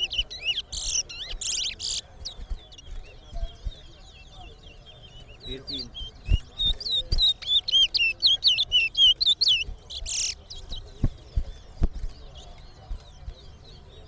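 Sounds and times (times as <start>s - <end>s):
finch singing whistled notes: 0.0s - 14.0s
soft bird chirps: 0.0s - 14.0s.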